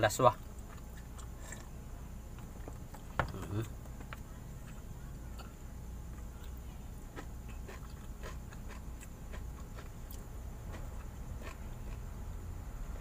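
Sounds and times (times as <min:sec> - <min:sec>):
steady low hum: 0:00.0 - 0:13.0
person chewing food: 0:00.4 - 0:05.6, 0:06.2 - 0:12.3.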